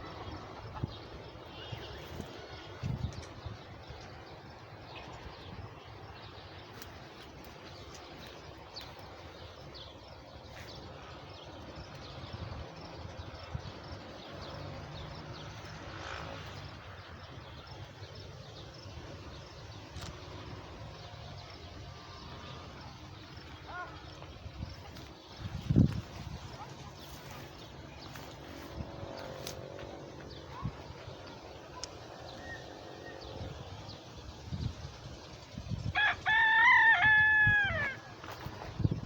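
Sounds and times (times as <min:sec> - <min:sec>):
low outdoor background noise: 0:00.0 - 0:39.0
small birds chirping: 0:00.0 - 0:39.0.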